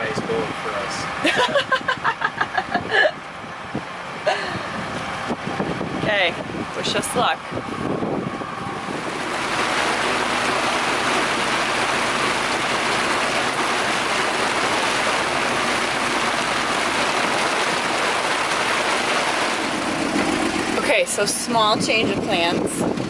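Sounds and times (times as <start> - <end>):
faint engine hum: 0.0 - 23.0
water rushing along a hull: 0.0 - 23.0.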